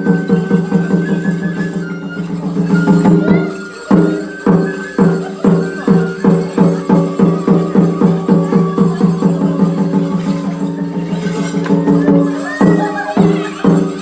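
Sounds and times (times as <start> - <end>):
rapid percussion strikes: 0.0 - 14.0.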